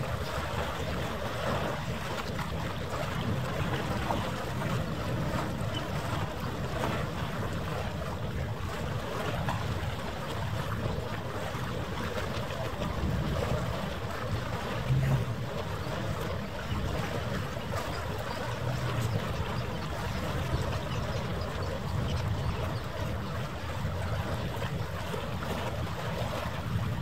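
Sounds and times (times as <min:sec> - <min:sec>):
water washing: 0:00.0 - 0:27.0
wind rumbling on microphone: 0:00.0 - 0:27.0.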